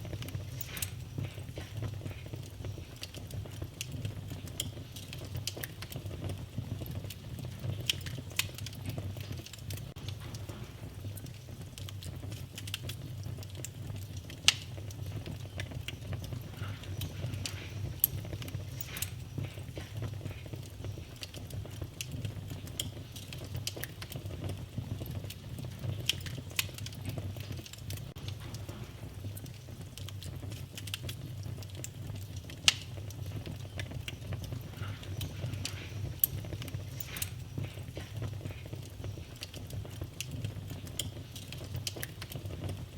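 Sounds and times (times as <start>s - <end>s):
fireplace fire crackling: 0.0s - 42.9s.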